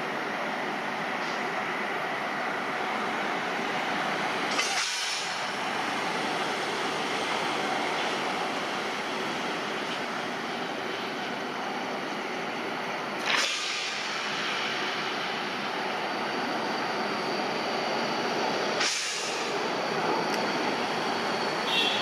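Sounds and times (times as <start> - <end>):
electric locomotive running: 0.0 - 22.0.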